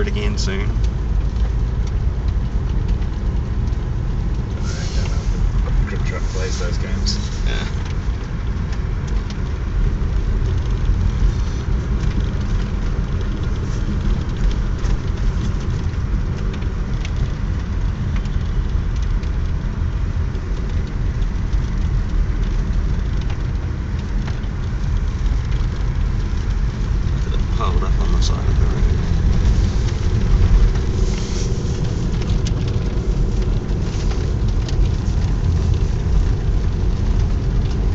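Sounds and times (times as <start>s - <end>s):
car engine and tyre rumble: 0.0s - 37.9s.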